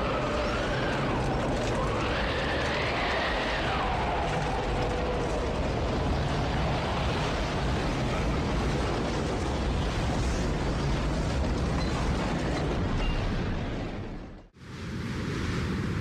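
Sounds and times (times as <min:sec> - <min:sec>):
wind and rain rushing: 0:00.0 - 0:16.0.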